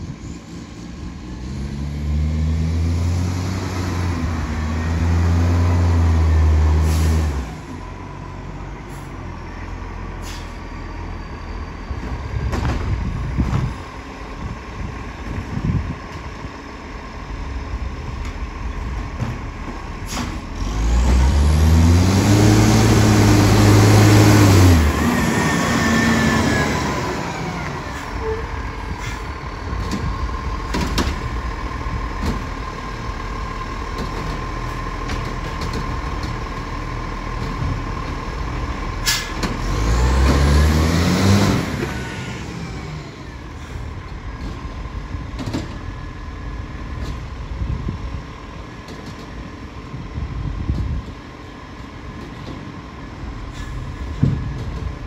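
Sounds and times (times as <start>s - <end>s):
garbage truck diesel engine accelerating: 0.0s - 55.0s.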